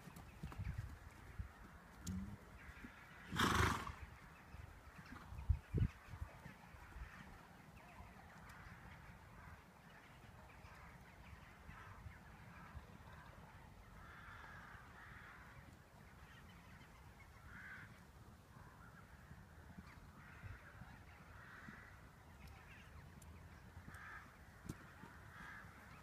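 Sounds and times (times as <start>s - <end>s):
distant bird calls: 0.0s - 26.0s.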